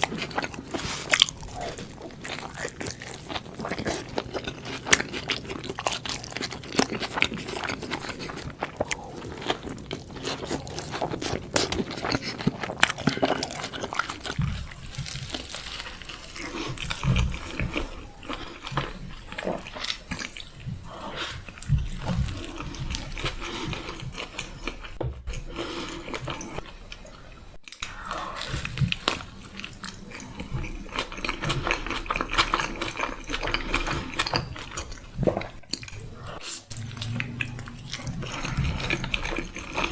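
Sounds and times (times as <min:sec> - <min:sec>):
chewing with mouth clicks: 0:00.0 - 0:39.9.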